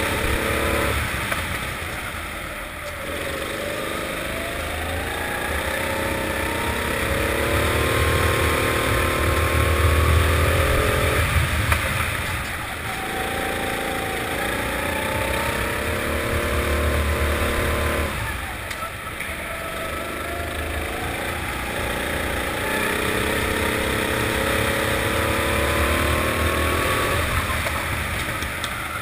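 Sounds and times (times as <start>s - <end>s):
kart engine accelerating: 0.0s - 29.0s.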